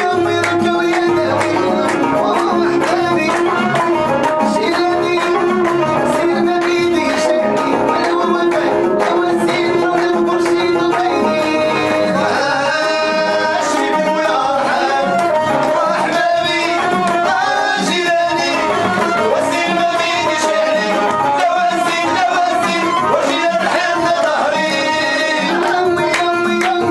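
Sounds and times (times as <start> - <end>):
electronic keyboard: 0.0 - 26.9
hands clapping: 0.0 - 26.9
man singing: 0.0 - 26.9
violin: 0.0 - 26.9.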